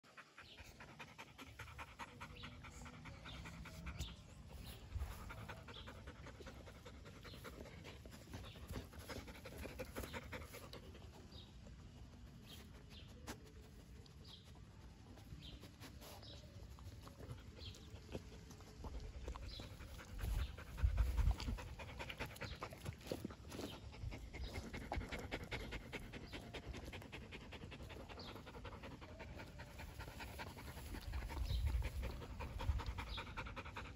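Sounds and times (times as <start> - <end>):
dog panting: 0.0 - 33.9.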